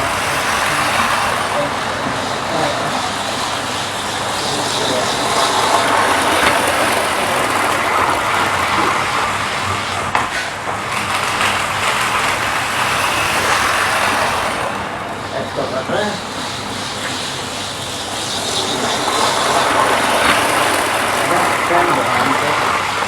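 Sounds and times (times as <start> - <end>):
model train motors whirring: 0.0 - 23.0.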